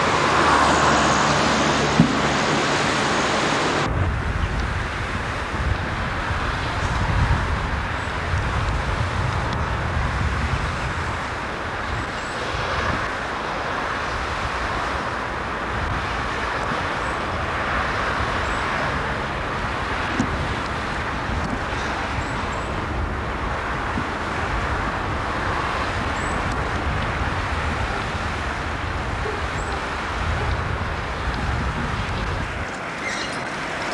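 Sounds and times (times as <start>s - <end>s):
low traffic rumble: 0.0s - 33.9s.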